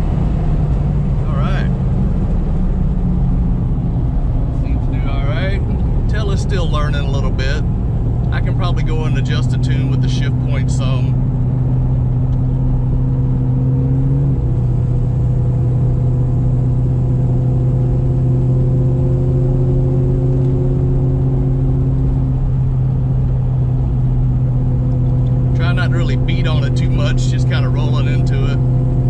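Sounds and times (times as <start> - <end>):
car engine droning: 0.0 - 29.0.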